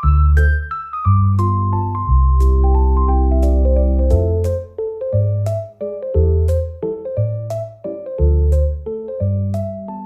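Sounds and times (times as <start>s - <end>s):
background music with bass: 0.0s - 10.0s.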